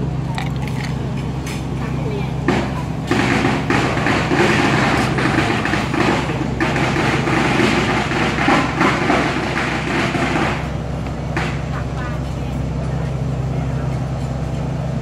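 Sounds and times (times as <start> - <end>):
ferry engine humming: 0.0 - 15.0.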